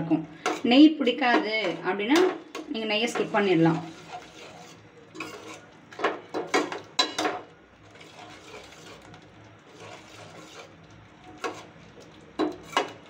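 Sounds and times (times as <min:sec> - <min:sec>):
steel ladle scraping a pan: 0:00.4 - 0:13.0.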